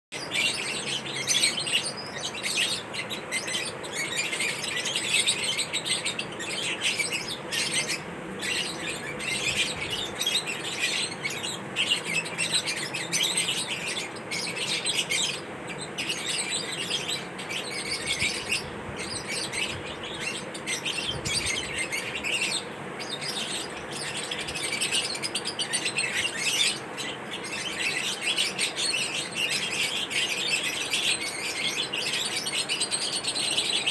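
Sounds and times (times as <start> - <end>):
lovebirds chirping: 0.2 - 33.9.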